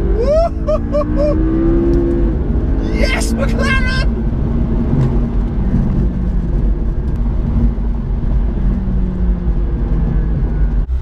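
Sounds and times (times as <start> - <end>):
road noise: 0.0 - 11.0
sports car engine running: 0.0 - 11.0.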